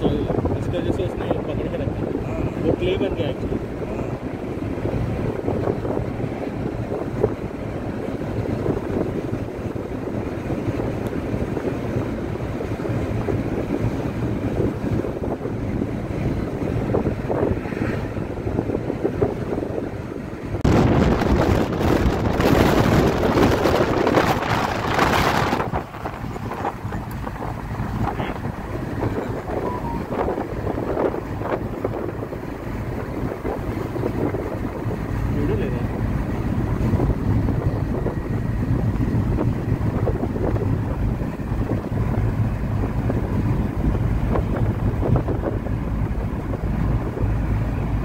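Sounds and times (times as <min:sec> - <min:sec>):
vehicle rumble and road noise: 0:00.0 - 0:48.0
wind buffeting microphone: 0:00.0 - 0:48.0.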